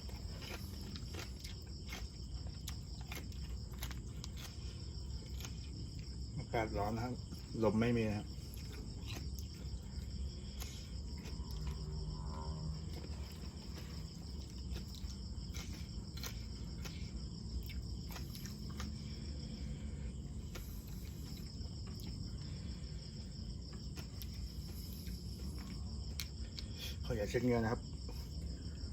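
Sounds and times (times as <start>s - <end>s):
person eating and chewing: 0.0s - 27.0s
insects trilling: 0.0s - 28.9s.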